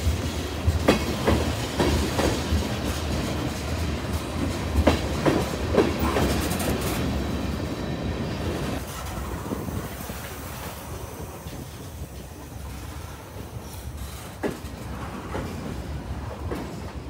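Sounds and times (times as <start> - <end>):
low train rumble: 0.0 - 17.0
train wheels clacking over rail joints: 0.0 - 17.0.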